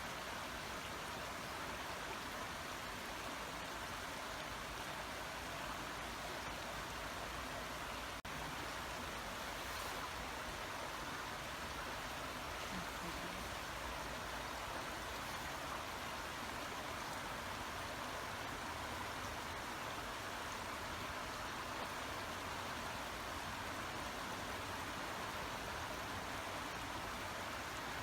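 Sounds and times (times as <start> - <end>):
brook running water: 0.0 - 28.0.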